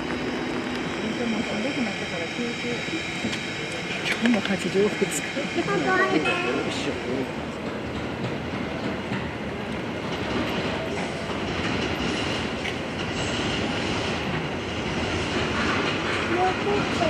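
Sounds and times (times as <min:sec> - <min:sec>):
steam locomotive running on track: 0:00.0 - 0:17.0.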